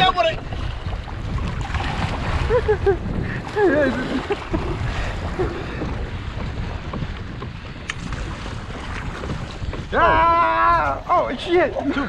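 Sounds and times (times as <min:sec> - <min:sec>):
water splashing against kayak hull: 0:00.0 - 0:12.0
wind rumbling on microphone: 0:00.0 - 0:12.0.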